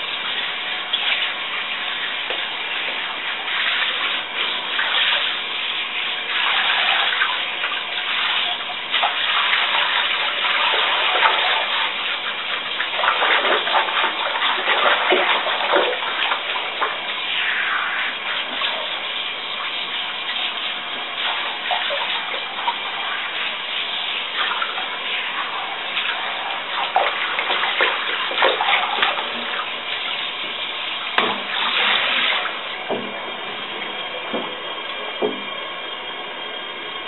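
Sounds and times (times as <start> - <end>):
shower spraying water on dog: 0.0 - 35.4
water splashing into bathtub: 0.0 - 35.8.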